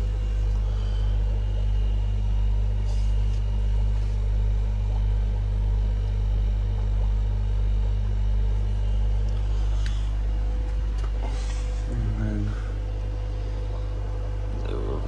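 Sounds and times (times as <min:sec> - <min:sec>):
electrical hum of air pumps: 0:00.0 - 0:15.0.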